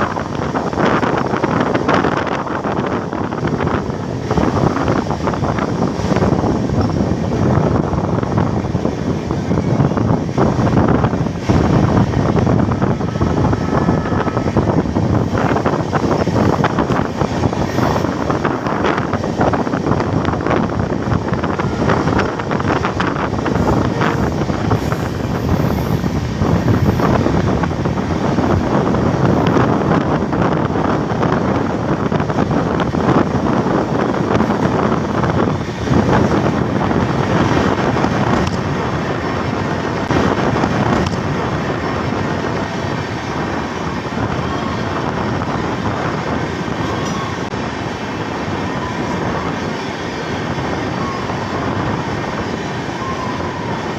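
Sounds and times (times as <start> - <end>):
train wheels rolling on rails: 0.0 - 53.9
wind rushing past microphone: 0.0 - 53.9.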